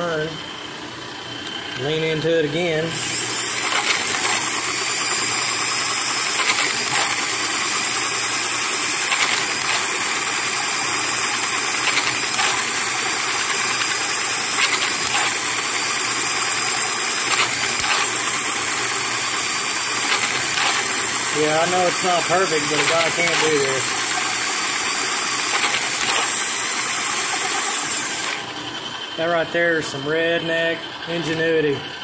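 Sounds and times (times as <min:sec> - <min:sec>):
faint motor hum: 0:00.0 - 0:32.0
grinding wheel grinding metal: 0:01.1 - 0:32.0
louder grinding scrapes: 0:02.6 - 0:28.5.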